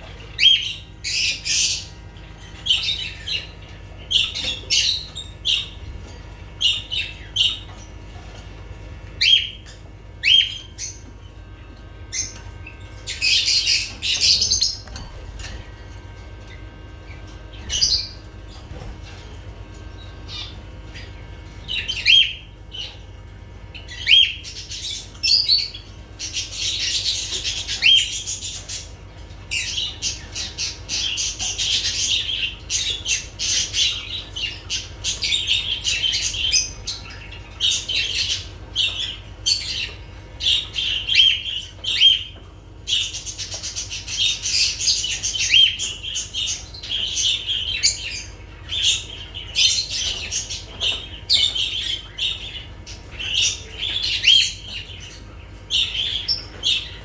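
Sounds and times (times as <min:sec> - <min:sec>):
lovebirds chattering: 0:00.0 - 0:57.0.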